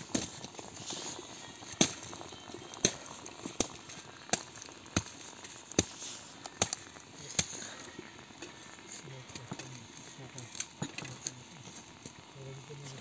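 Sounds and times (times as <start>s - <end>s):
water pouring into metal teapot: 0.0s - 10.8s.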